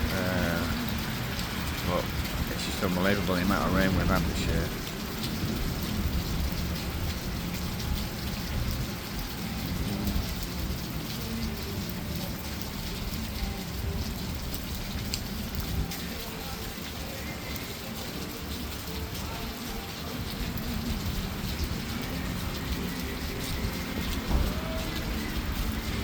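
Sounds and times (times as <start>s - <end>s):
rain downpour: 0.0s - 26.0s.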